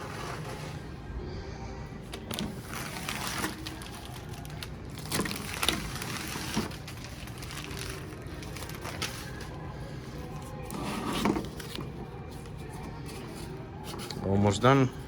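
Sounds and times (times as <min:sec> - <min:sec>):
plastic film peeling and crackling: 0:02.1 - 0:15.0.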